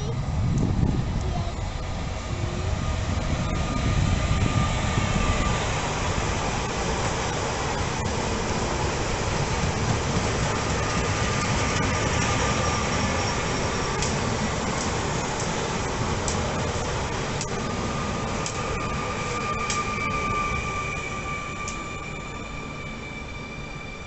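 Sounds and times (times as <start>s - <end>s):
train wheels and traction rumble: 0.0s - 24.0s.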